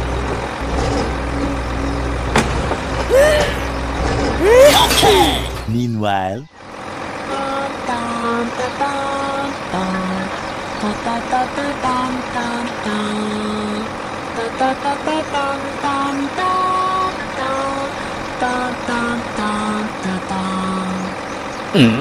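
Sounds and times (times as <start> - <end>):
heavy vehicle engine: 0.0 - 22.0.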